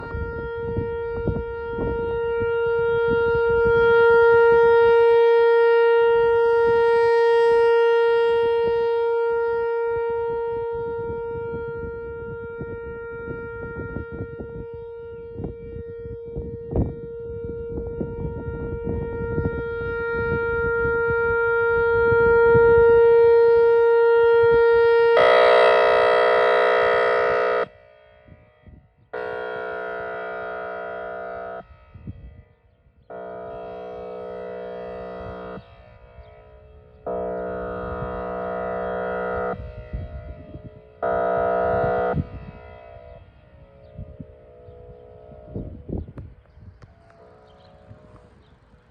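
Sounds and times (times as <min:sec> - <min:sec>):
low full-toned siren blast: 0:00.0 - 0:48.9
warning siren wailing: 0:00.0 - 0:48.9.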